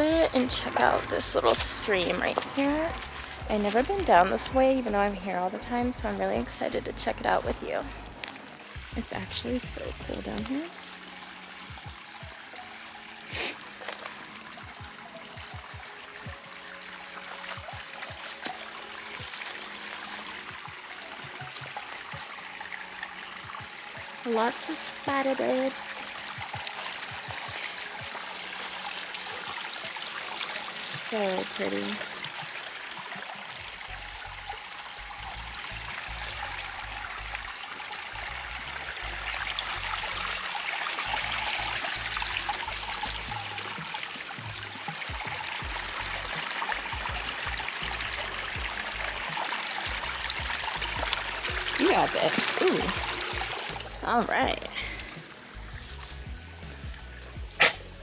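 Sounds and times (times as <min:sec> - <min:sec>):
background music with low thumps: 0:00.0 - 0:30.2, 0:30.8 - 0:58.0
stream trickling: 0:00.0 - 0:58.0.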